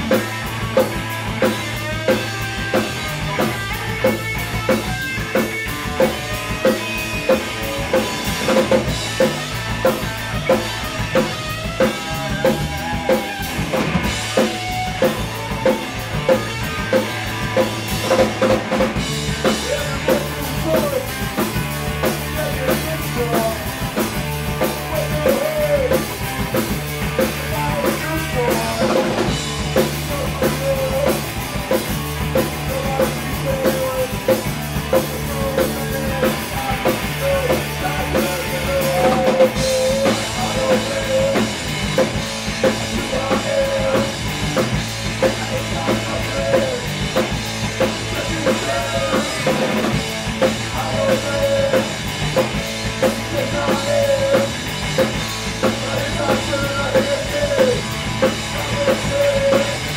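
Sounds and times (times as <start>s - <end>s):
drum kit beat: 0.0s - 59.9s
live rock band playing: 0.0s - 59.9s.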